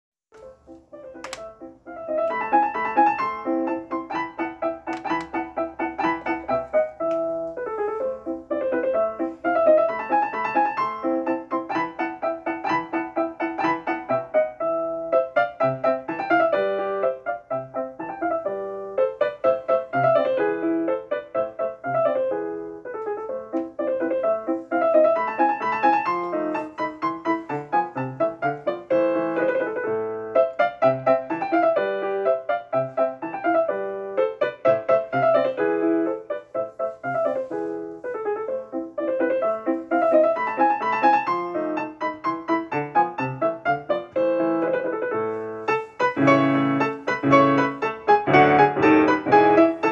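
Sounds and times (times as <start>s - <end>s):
solo piano music: 0.3s - 49.9s.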